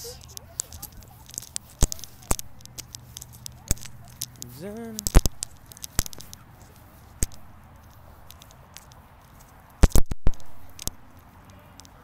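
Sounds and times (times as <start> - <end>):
sharp clicks and knocks: 0.2 - 12.0.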